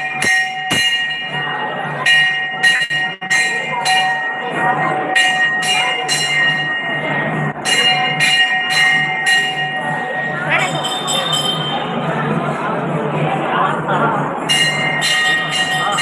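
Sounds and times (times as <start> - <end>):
temple bell ringing: 0.0 - 12.6, 14.4 - 16.0.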